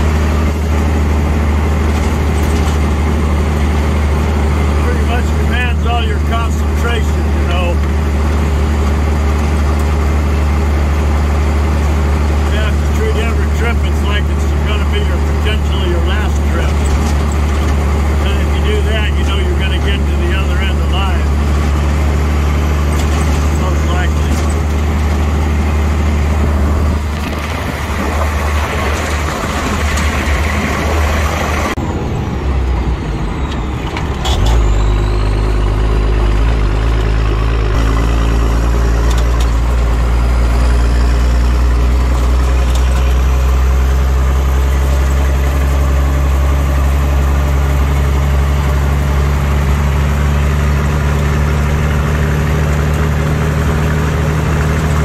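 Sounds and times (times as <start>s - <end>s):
truck engine driving: 0.0s - 55.0s.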